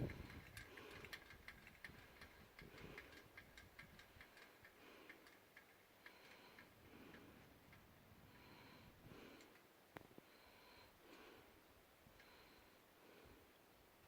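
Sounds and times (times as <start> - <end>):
faint regular clicking: 0.0 - 11.5, 12.1 - 12.8.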